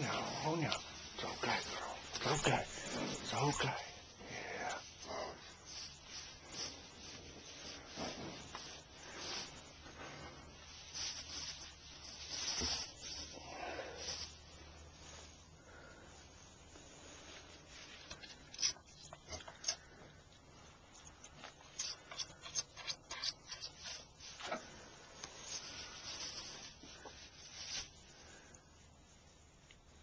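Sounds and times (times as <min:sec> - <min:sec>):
rubbing and rustling: 0:00.0 - 0:30.0.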